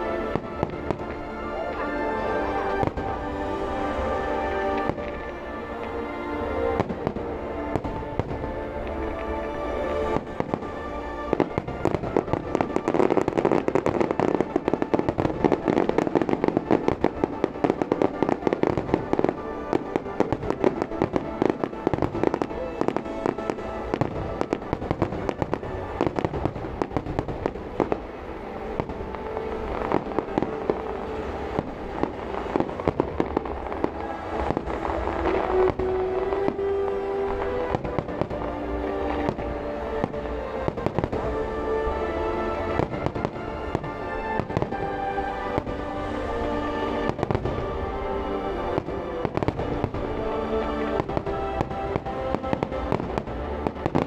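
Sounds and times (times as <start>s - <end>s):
firework bursts and crackling: 0.0s - 54.0s
music: 0.0s - 54.0s.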